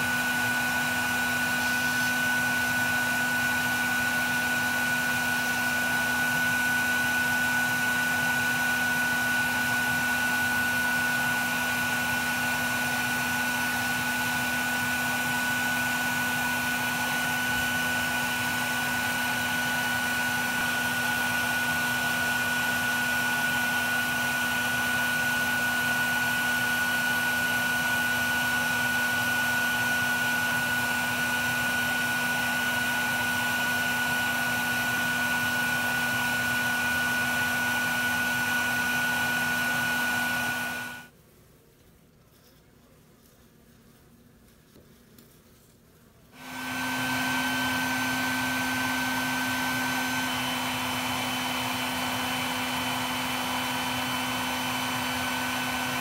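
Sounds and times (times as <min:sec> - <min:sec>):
vacuum motor whine: 0:00.0 - 0:41.1, 0:46.4 - 0:56.0.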